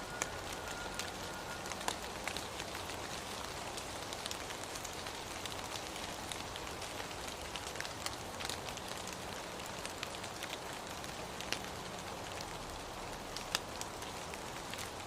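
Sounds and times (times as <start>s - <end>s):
raindrops ticking on a surface: 0.0s - 15.0s
steady rain falling: 0.0s - 15.0s.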